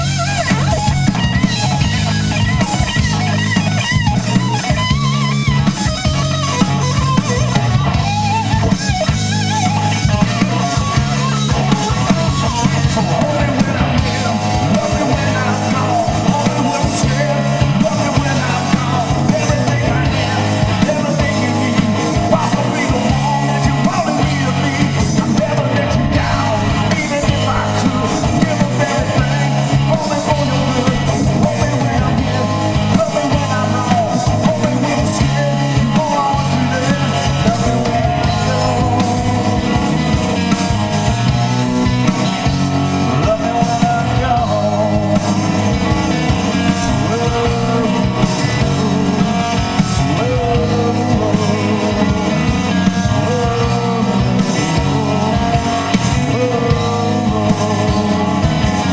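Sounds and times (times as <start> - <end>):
bass guitar: 0.0 - 58.9
drum kit: 0.0 - 58.9
electric guitars: 0.0 - 58.9
man singing lead: 0.0 - 58.9.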